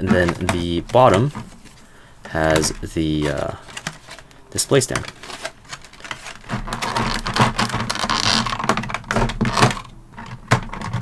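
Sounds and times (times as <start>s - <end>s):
plastic tray crinkling: 0.0s - 11.0s.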